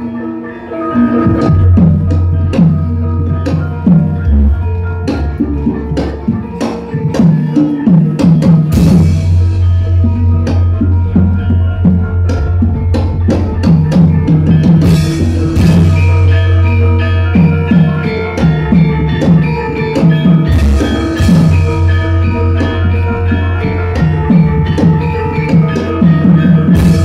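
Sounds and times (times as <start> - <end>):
metallophones ringing: 0.0 - 27.0
drum strokes: 1.0 - 27.0.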